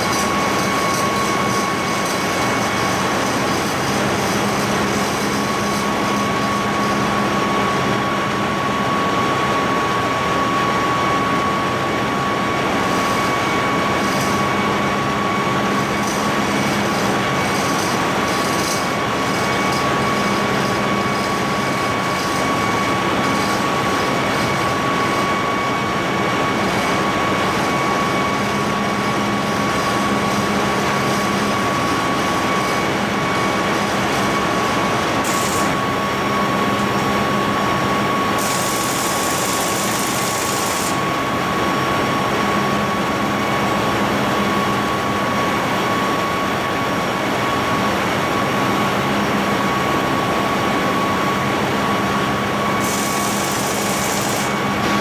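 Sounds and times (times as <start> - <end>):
engine room machinery rumble: 0.0 - 55.0.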